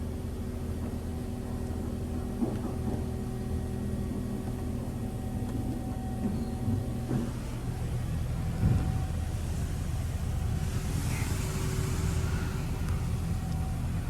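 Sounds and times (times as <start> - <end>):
car wash machinery humming: 0.0 - 14.0.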